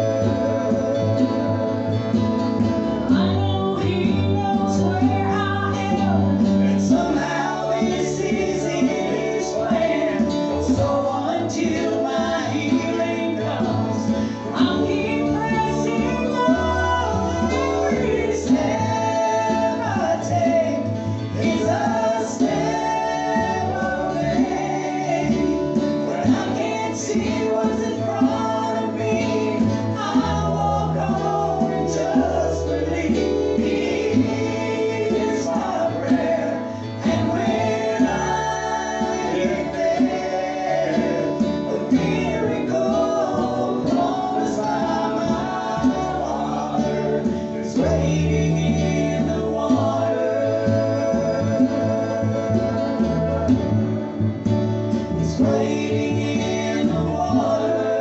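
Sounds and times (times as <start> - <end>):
group singing in harmony: 0.0 - 58.0
guitar accompaniment: 0.0 - 58.0.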